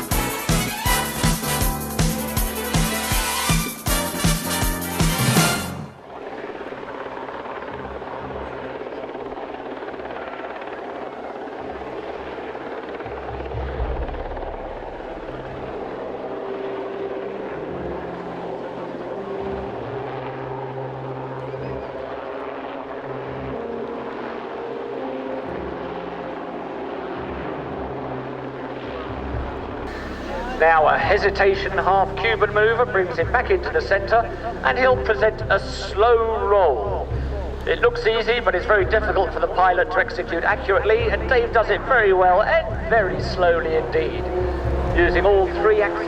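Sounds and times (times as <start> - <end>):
music track: 0.0 - 6.4, 12.8 - 46.0
propeller aircraft engine drone: 0.0 - 46.0.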